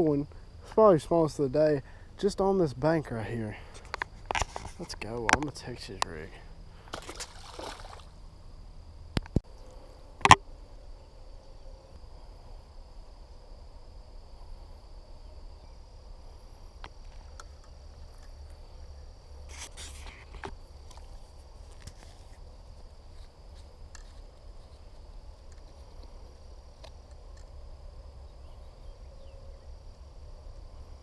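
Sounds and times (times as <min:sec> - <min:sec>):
insects buzzing: 0:00.0 - 0:31.0.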